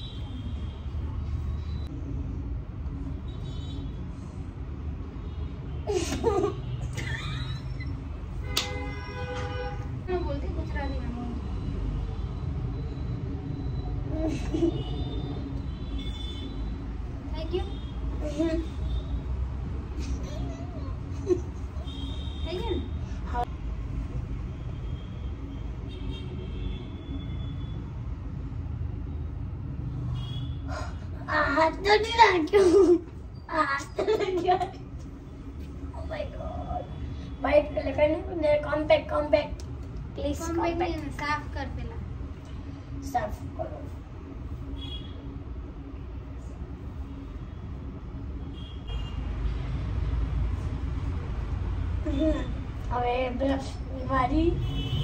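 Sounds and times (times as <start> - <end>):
low traffic rumble: 0.0 - 55.0.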